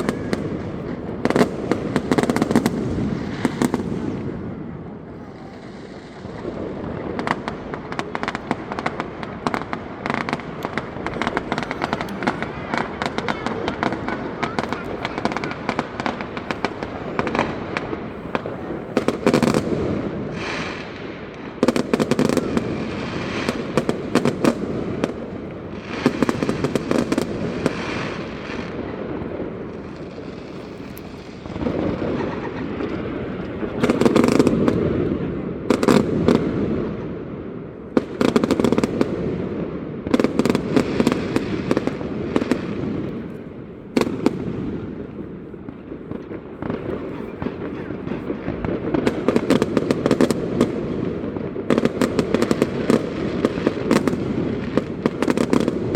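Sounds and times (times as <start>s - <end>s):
fireworks bursting and crackling: 0.0s - 55.9s.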